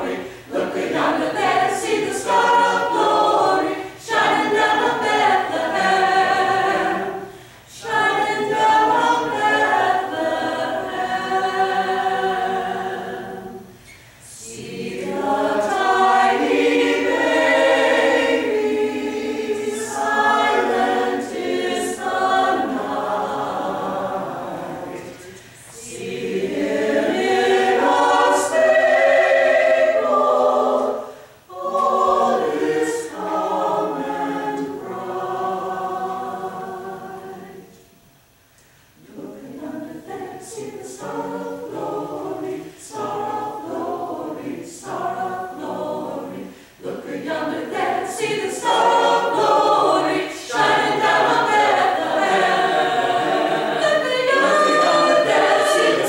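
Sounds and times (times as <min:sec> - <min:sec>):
mixed choir singing a cappella: 0:00.0 - 0:38.1, 0:38.8 - 0:56.0.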